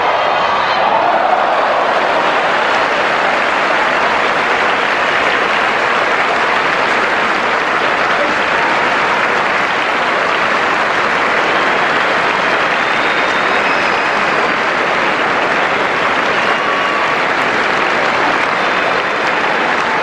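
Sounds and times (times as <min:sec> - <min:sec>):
large crowd applauding: 0:00.0 - 0:20.0.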